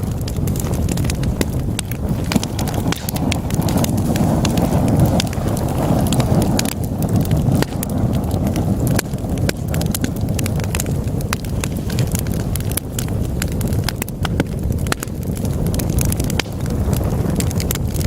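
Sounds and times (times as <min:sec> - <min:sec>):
burning logs crackling and popping: 0:00.0 - 0:18.0
fire flames rumbling: 0:00.0 - 0:18.0.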